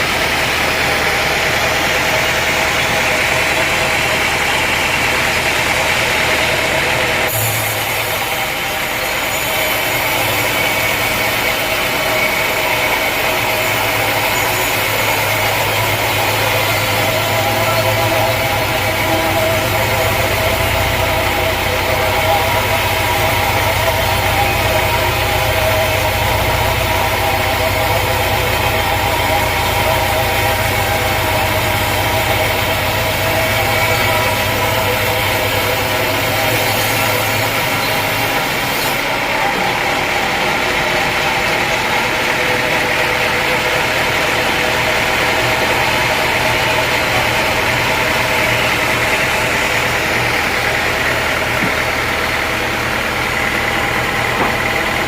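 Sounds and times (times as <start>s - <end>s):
low engine-like hum: 0.0s - 55.0s
sawmill machinery running: 0.0s - 55.0s.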